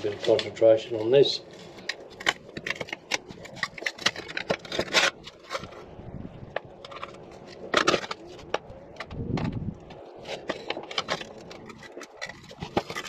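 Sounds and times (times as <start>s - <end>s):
rock crushing and scraping in a vise: 0.0s - 13.0s.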